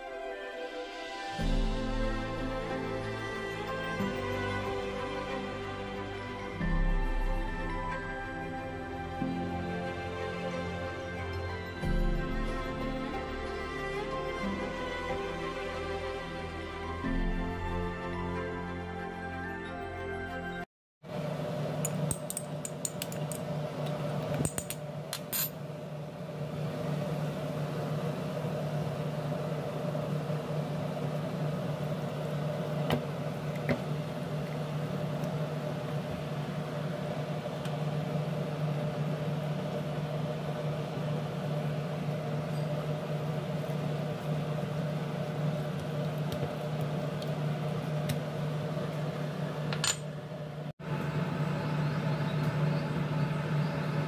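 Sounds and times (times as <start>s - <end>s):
steady mechanical hum: 0.0s - 19.9s, 20.6s - 54.0s.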